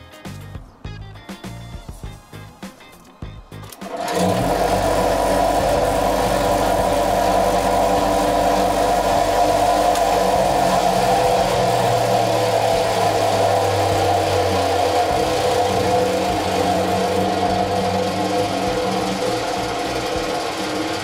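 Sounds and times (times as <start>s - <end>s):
vibrating sieve buzzing hum: 3.2s - 21.0s.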